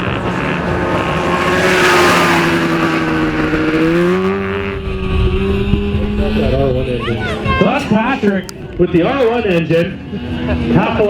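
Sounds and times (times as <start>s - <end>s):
racing lawnmower engines revving: 0.0s - 11.0s.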